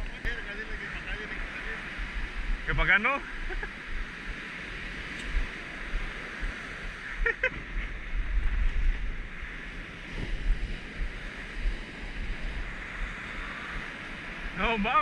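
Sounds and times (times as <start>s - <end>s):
surf breaking on beach: 0.0s - 15.0s
wind on microphone: 0.0s - 15.0s.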